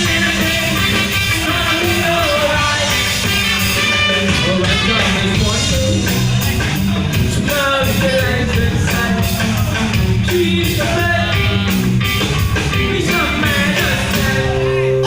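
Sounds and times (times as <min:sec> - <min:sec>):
band music with singer: 0:00.0 - 0:15.0.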